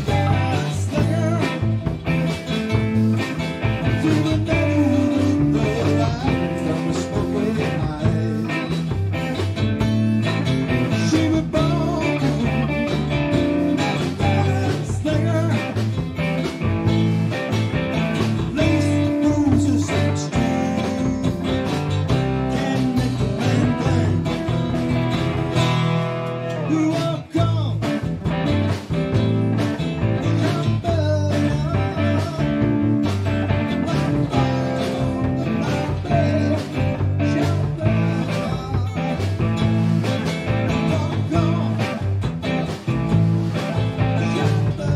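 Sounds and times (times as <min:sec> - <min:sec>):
drum kit: 0:00.0 - 0:44.9
electric bass guitar: 0:00.0 - 0:44.9
electric guitars: 0:00.0 - 0:44.9.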